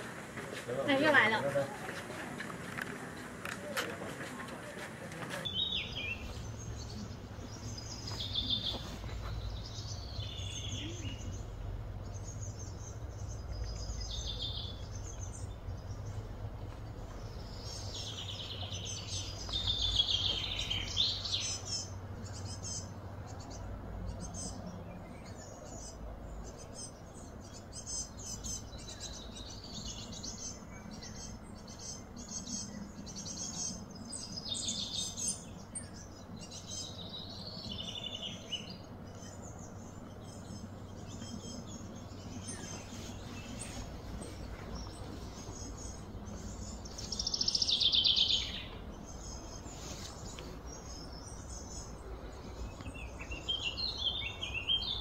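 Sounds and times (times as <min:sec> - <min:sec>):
birds calling and chirping: 0:00.0 - 0:55.0
low background rumble: 0:05.1 - 0:55.0.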